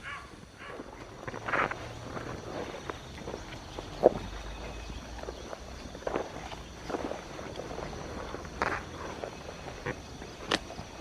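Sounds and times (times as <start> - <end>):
footsteps through undergrowth: 0.1 - 11.0.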